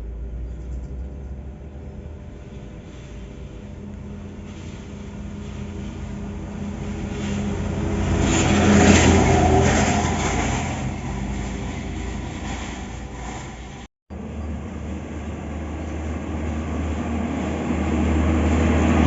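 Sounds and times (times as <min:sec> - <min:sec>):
heavy truck driving past: 0:00.0 - 0:19.0.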